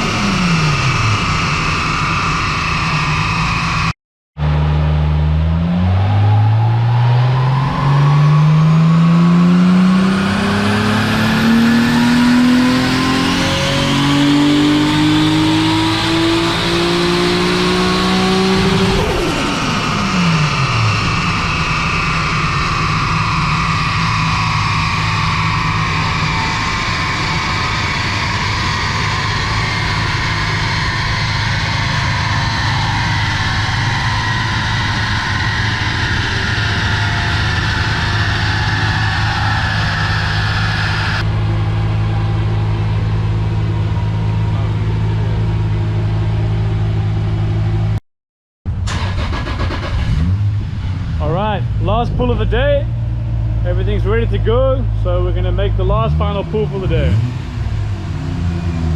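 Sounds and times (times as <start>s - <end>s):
turbocharged engine revving then idling: 0.0s - 48.0s, 48.9s - 58.9s.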